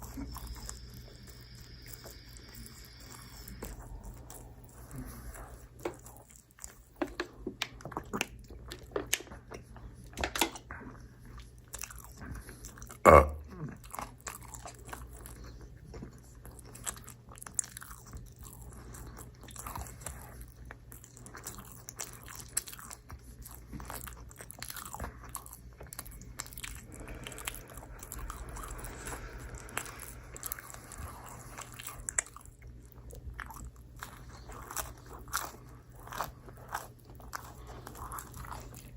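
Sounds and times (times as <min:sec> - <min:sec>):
biting and chewing pizza: 0:00.0 - 0:38.9.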